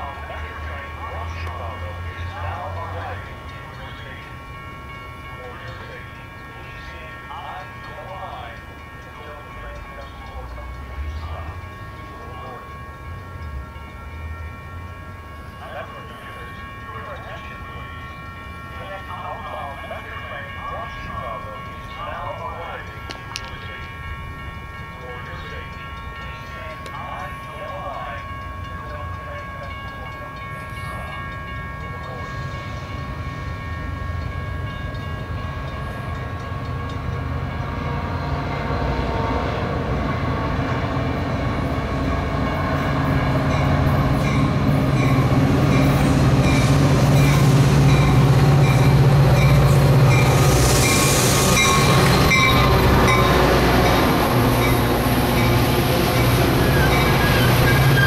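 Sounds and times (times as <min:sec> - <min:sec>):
train rolling past: 0:00.0 - 0:58.0.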